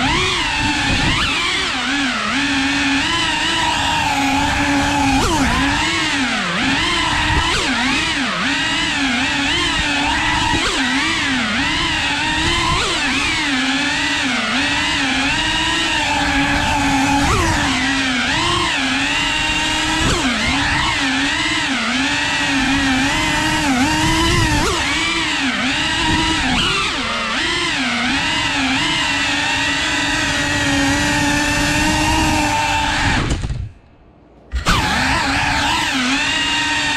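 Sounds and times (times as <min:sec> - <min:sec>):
drone motors whining: 0:00.0 - 0:36.9.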